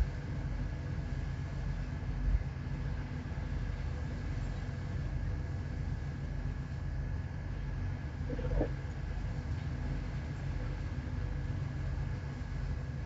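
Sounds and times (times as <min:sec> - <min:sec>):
faint steady whine: 0:00.0 - 0:13.0
ship engine drone: 0:00.0 - 0:13.0.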